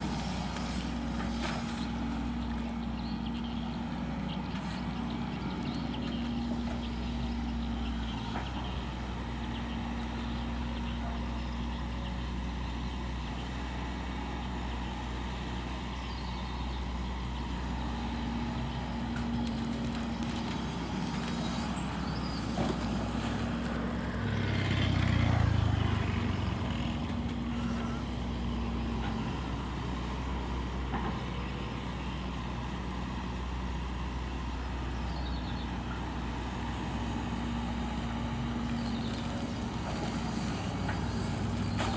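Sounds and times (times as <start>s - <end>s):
excavator diesel engine droning: 0.0s - 41.9s.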